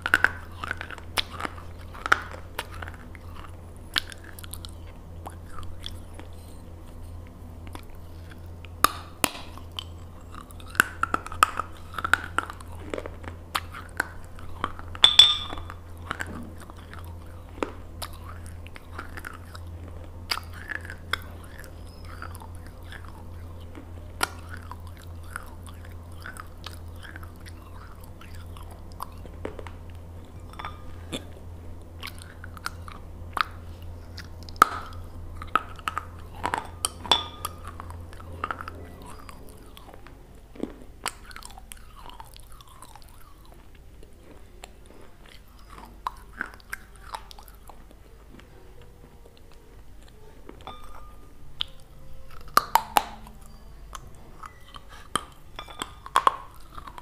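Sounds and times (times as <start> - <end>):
crunchy food chewing: 0.0 - 57.0
steady low hum: 0.0 - 57.0.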